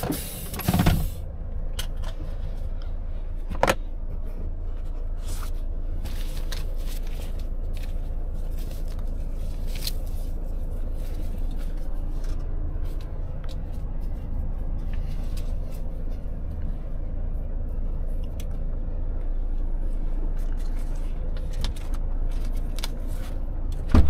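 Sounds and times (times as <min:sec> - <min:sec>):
truck engine drone: 0:00.0 - 0:24.0.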